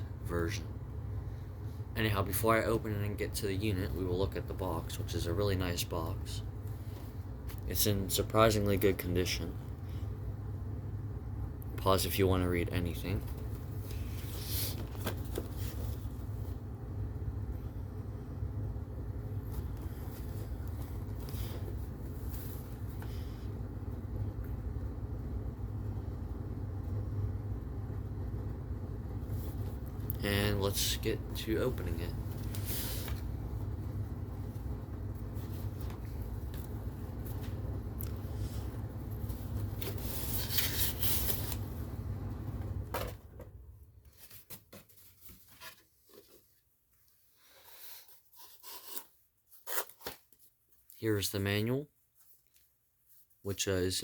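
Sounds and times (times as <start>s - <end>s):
low background rumble: 0.0s - 44.1s.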